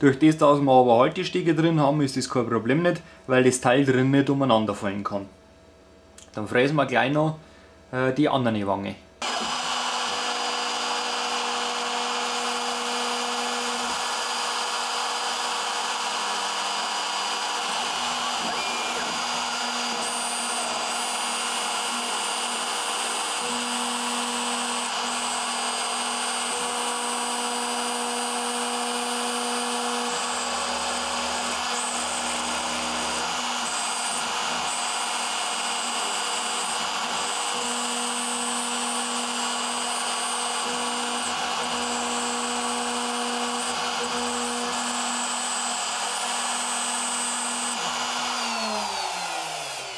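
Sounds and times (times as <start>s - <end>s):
milling machine spindle cutting plastic: 9.2s - 49.9s.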